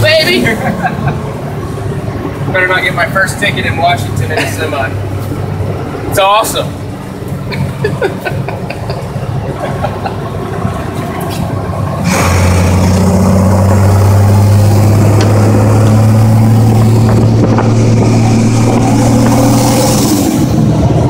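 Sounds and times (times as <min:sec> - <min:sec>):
road and wind noise: 0:00.0 - 0:21.0
truck diesel engine drone: 0:00.0 - 0:21.0.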